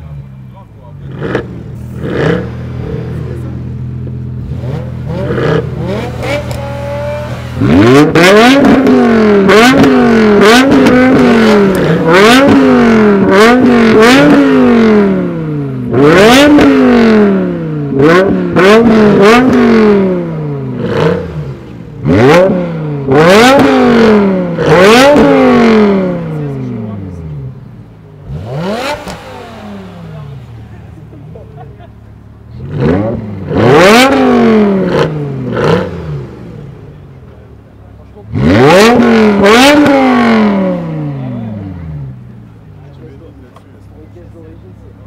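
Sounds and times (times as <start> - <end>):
car engines idling: 0.0 - 45.0
car engines revving: 0.0 - 45.0.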